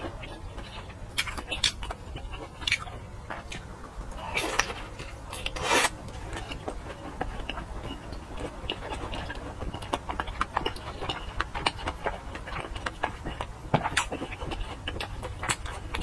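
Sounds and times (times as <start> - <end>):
wet chewing clicks and smacks: 0.1 - 3.7, 4.6 - 16.0.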